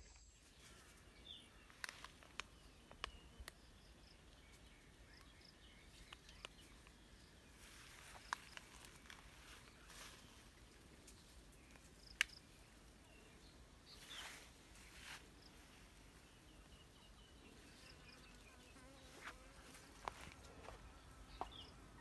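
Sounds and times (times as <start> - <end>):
faint outdoor garden ambience: 0.0 - 22.0.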